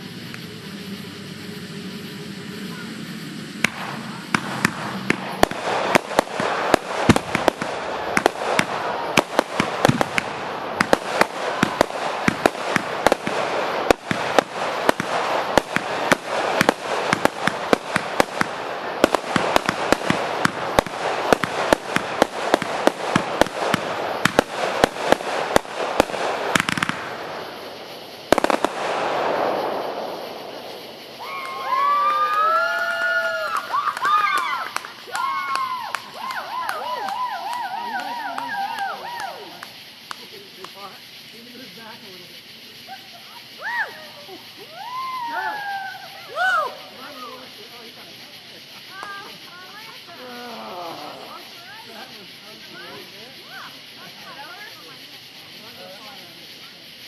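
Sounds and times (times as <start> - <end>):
crackling hiss: 0.0 - 57.0
firework bangs: 0.0 - 57.0.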